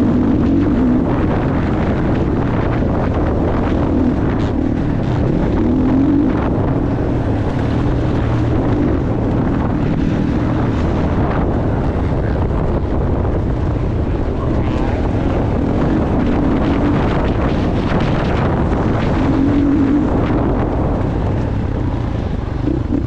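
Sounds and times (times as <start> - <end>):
motocross bike engine revving: 0.0 - 23.0
wind on microphone: 0.0 - 23.0.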